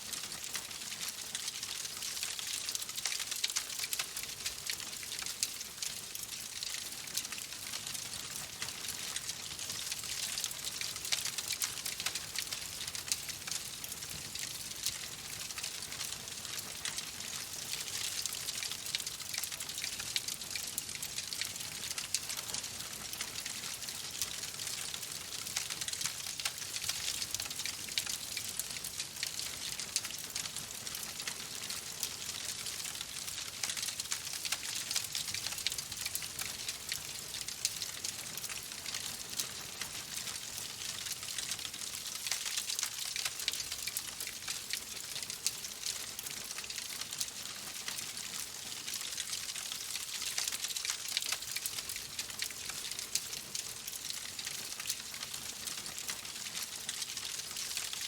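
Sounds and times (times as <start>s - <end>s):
wood fire crackling: 0.1s - 57.9s.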